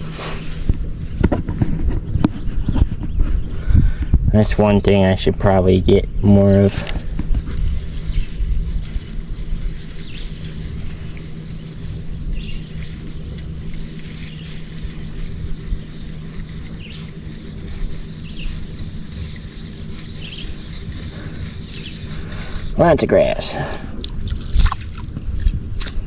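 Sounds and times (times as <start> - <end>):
steady low hum: 0.0 - 26.0
wind rumbling on microphone: 0.0 - 26.0.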